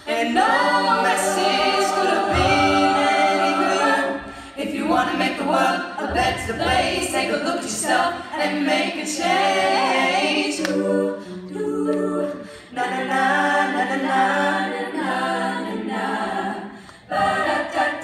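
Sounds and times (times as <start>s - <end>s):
a cappella choir singing: 0.0s - 18.0s.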